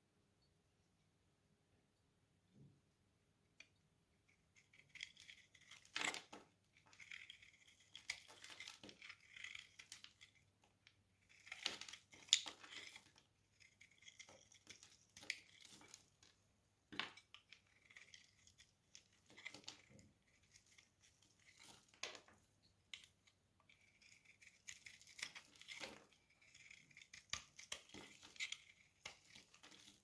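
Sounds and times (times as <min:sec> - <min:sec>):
knife scraping dry soap: 0:04.2 - 0:30.0
soap cracking: 0:04.6 - 0:30.0.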